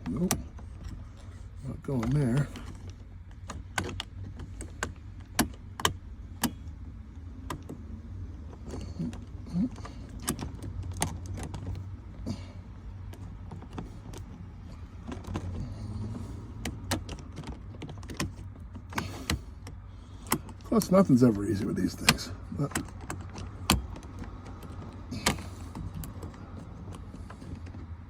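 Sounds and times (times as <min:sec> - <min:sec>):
shift knob clicking and knocking: 0:00.0 - 0:28.0.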